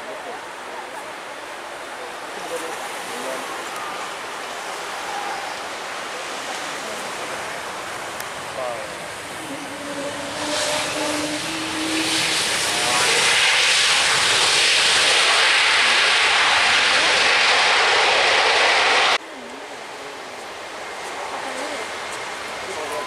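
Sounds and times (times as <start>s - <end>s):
jet airliner engines: 2.3s - 23.0s.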